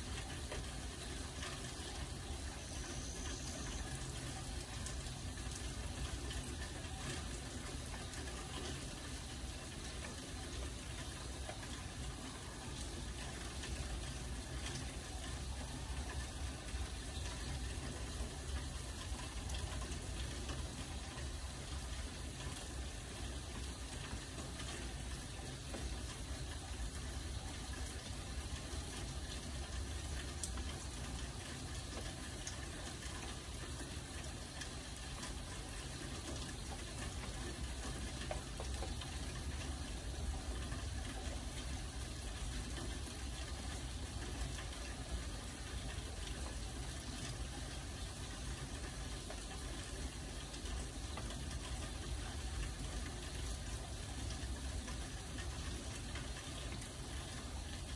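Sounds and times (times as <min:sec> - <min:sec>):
faint ticks: 0:00.0 - 0:57.9
steady rain: 0:00.0 - 0:57.9.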